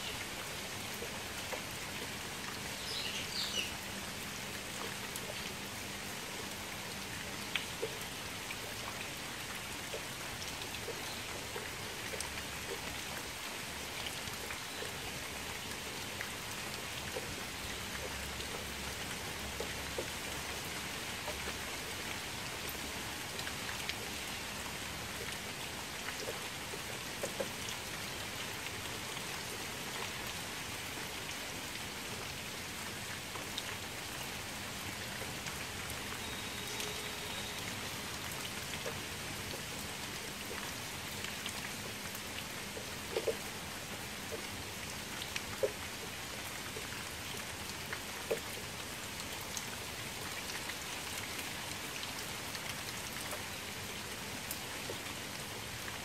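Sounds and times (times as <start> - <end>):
rain falling into puddle: 0.1 - 56.0.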